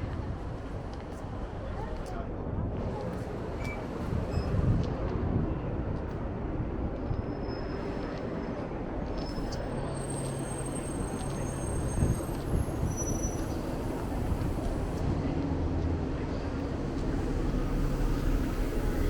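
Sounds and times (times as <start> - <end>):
low rumble of vehicle engines: 0.0 - 19.0.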